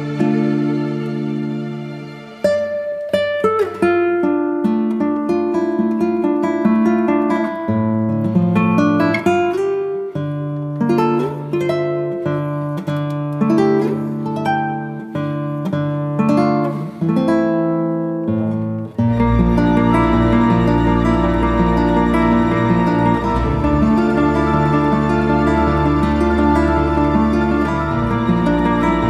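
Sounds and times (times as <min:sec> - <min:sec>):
acoustic guitar melody: 0:00.0 - 0:29.0.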